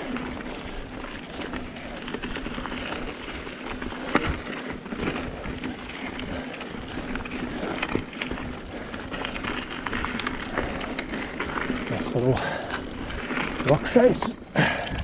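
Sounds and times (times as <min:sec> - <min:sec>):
bike rattling over rocks: 0:00.0 - 0:15.0
bike tyres rolling on dirt: 0:00.0 - 0:15.0.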